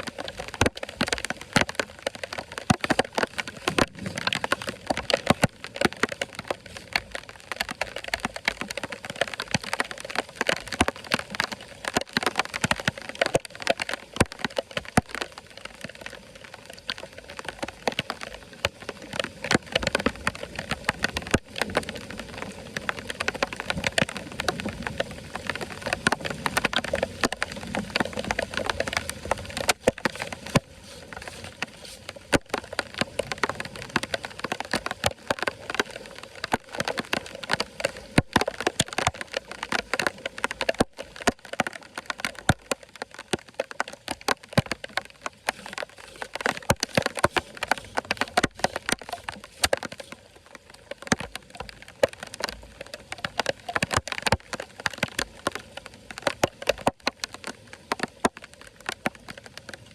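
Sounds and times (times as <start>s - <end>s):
sharp clicks and crackles: 0.0s - 59.9s.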